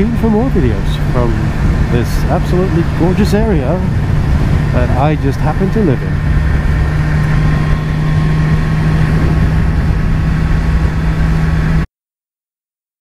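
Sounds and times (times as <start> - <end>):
motorcycle engine cruising: 0.0 - 11.9
wind and road rush: 0.0 - 11.9.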